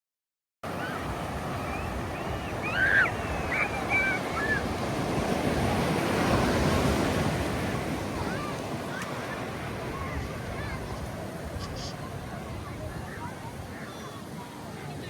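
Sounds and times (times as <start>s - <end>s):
ocean surf breaking: 0.7s - 15.0s.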